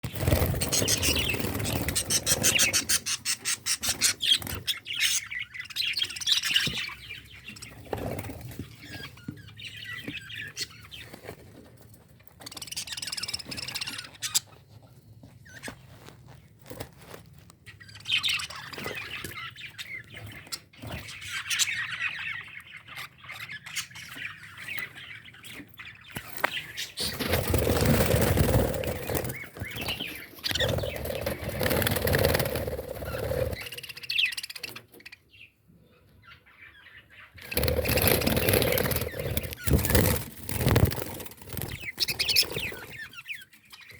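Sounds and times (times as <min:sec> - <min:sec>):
lovebirds chirping and squawking: 0:00.0 - 0:43.9.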